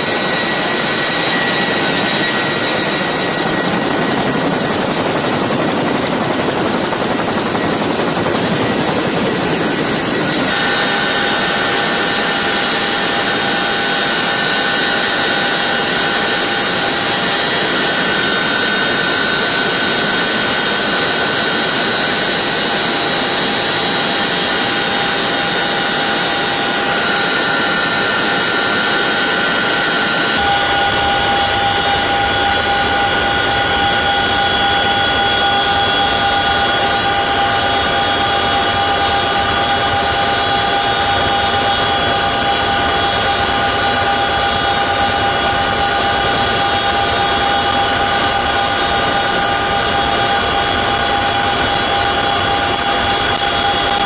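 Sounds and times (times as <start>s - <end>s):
helicopter engine whine: 0.0s - 54.0s.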